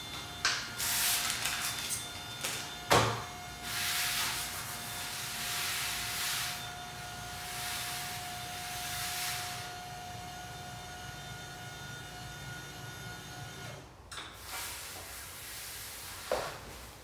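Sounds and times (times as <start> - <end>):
electric desk motor humming: 0.0 - 13.9.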